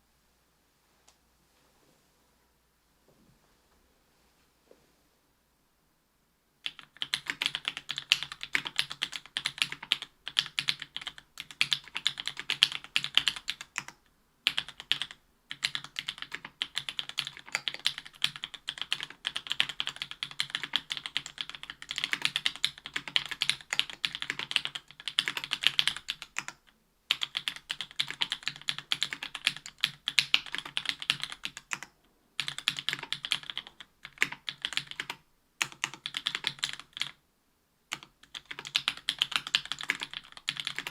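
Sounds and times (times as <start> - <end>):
typing on a keyboard: 6.6 - 37.2, 37.9 - 40.9.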